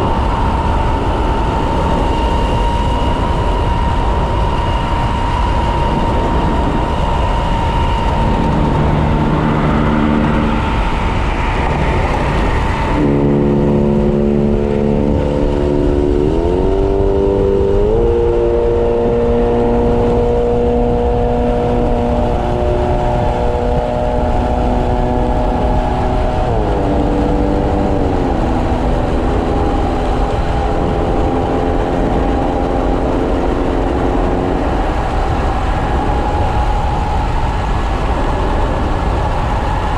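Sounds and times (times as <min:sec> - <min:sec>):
electric motor whine: 0:00.0 - 0:38.1
wind and road noise: 0:00.0 - 0:39.9.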